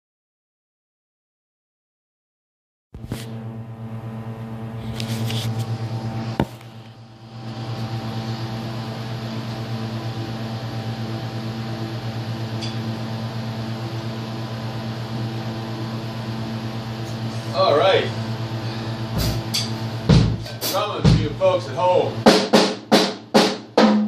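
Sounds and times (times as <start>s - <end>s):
low machine hum: 3.0s - 22.6s.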